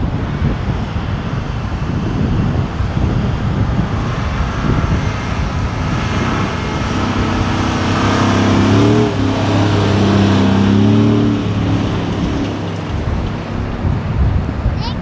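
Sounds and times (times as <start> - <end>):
truck engine driving through sand: 0.0 - 15.0.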